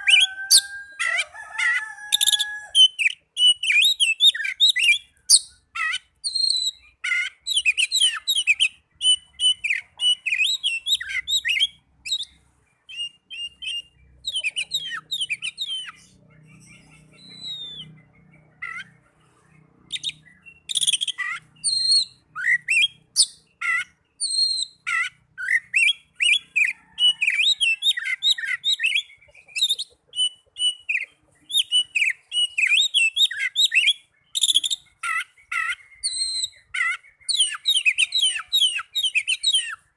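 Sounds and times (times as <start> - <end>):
bird singing whistles: 2.2 - 16.0, 16.6 - 18.0, 19.9 - 39.8.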